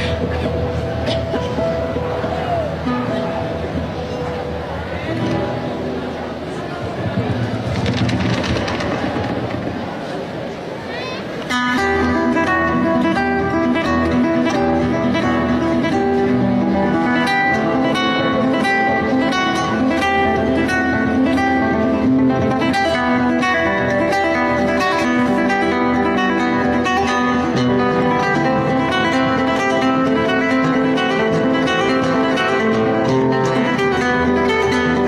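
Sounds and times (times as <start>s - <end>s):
acoustic guitar plucked and strummed: 0.0s - 10.6s, 11.3s - 35.0s.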